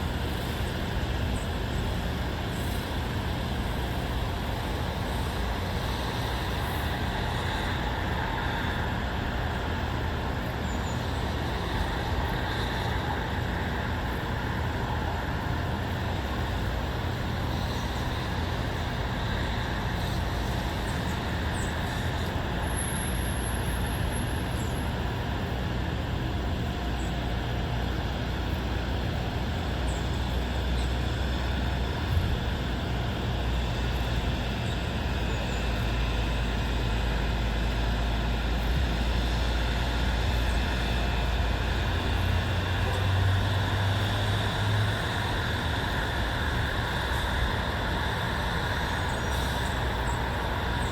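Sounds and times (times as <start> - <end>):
distant road traffic hum: 0.0 - 50.9.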